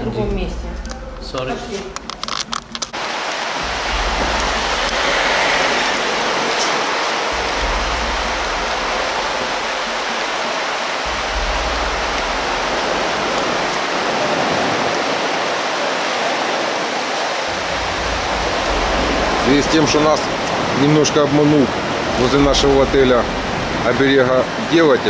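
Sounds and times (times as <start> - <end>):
low rumbles: 0.0 - 24.8
steady rushing noise: 0.0 - 25.0.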